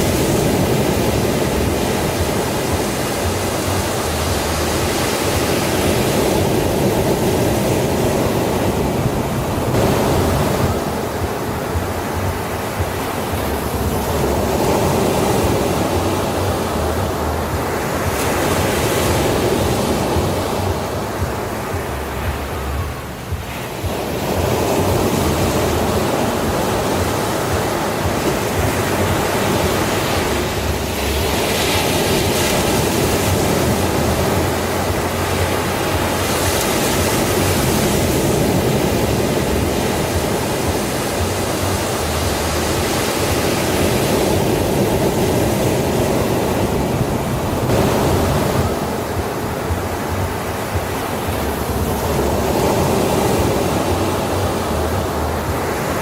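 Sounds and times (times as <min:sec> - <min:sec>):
sea waves washing on beach: 0:00.0 - 0:56.0.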